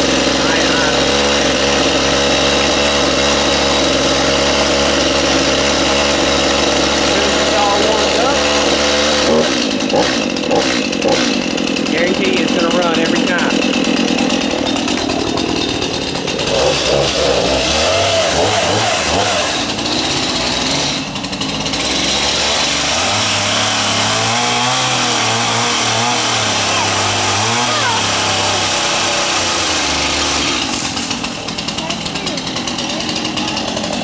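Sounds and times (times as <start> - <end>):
chainsaw engine idling high: 0.0 - 34.0.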